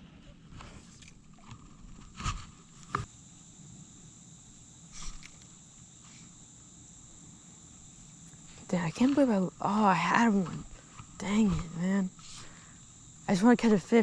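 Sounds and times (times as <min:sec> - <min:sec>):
crickets buzzing: 0:00.0 - 0:14.0.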